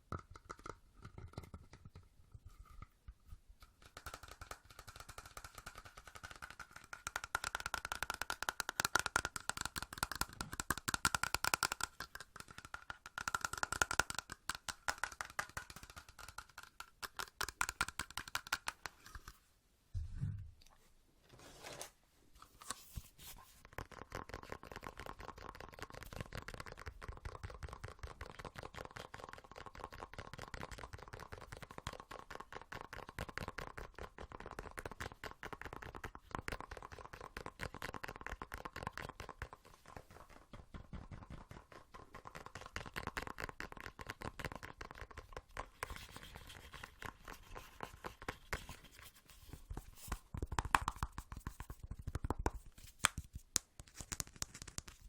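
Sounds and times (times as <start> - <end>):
tapping and scratching on microphone: 0.0 - 19.4, 20.0 - 55.0.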